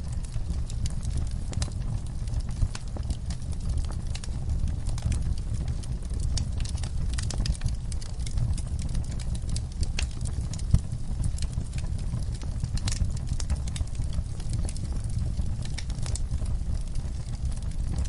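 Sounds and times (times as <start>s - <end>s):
low rumble of flames: 0.0s - 18.0s
wood fire crackling: 0.0s - 18.0s.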